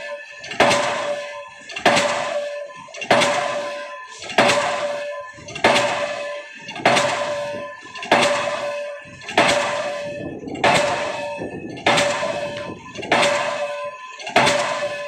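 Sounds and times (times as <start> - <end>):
pile hammer blows: 0.0 - 15.0
ringing tone after blows: 0.0 - 15.0.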